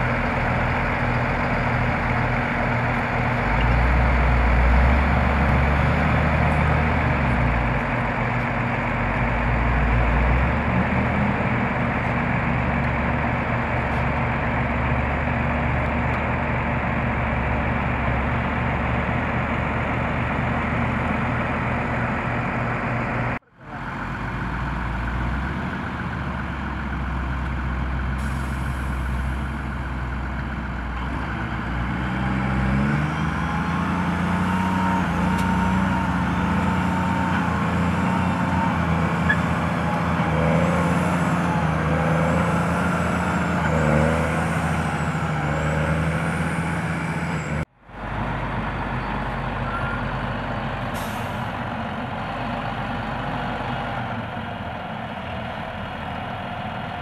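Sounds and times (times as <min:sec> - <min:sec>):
tractor engine rumble: 0:00.0 - 0:57.0.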